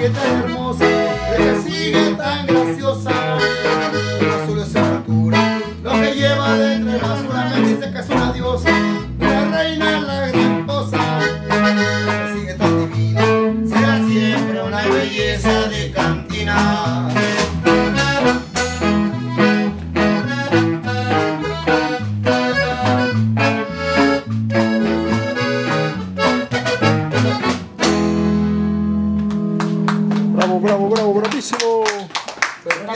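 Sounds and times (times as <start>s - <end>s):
accordion playing melody: 0.0s - 30.9s
strummed guitar: 0.0s - 31.2s
walking bass line: 0.0s - 31.4s.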